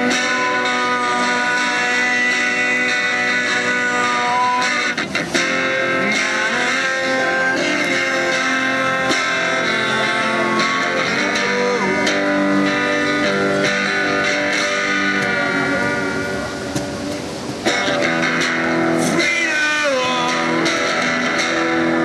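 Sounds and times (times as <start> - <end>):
strummed guitar chords: 0.0 - 22.0.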